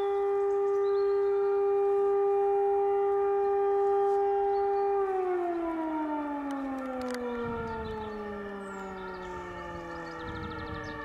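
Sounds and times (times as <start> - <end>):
alarm siren howling: 0.0 - 11.0.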